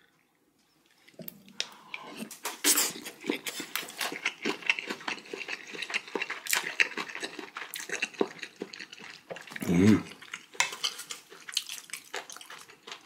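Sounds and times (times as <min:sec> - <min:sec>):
chewing mouth clicks and smacks: 0:02.4 - 0:13.0.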